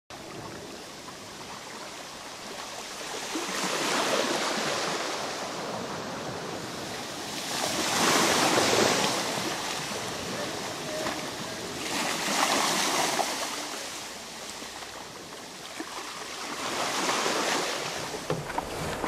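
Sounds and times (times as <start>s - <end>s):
sea waves washing in: 0.1s - 19.0s.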